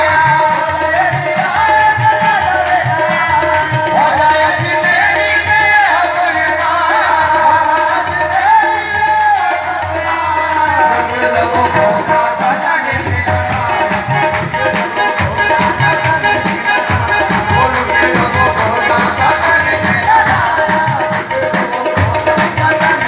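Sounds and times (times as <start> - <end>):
harmonium tones: 0.0 - 23.0
tabla beat: 0.0 - 23.0
voices singing: 0.0 - 23.0.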